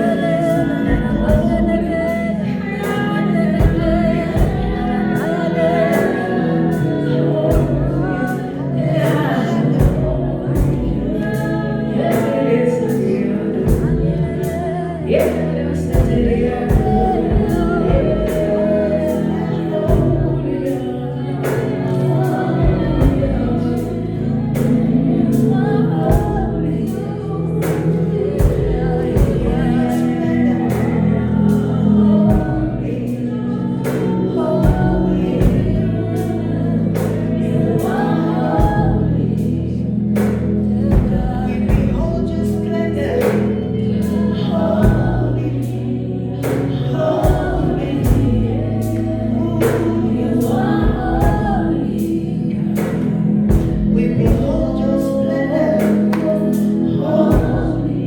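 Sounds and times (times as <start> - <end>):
band with bass and drums: 0.0 - 33.2, 33.8 - 58.0
voices singing gospel: 0.0 - 58.0.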